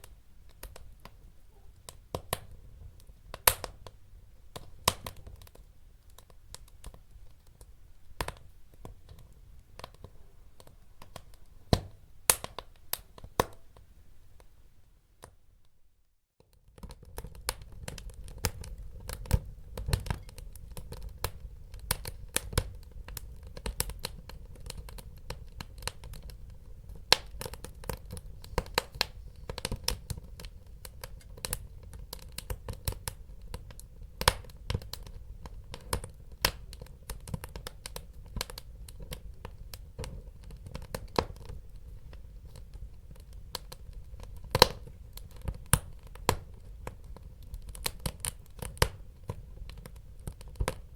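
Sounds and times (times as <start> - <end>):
fire popping: 0.0 - 14.5, 16.4 - 50.9
wood fire crackling: 0.0 - 15.4, 16.4 - 50.9.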